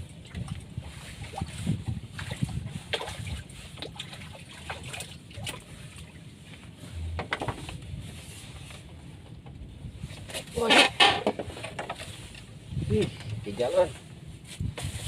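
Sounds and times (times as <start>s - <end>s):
low steady rumble: 0.0s - 15.0s
water splashing and sloshing: 0.0s - 15.0s.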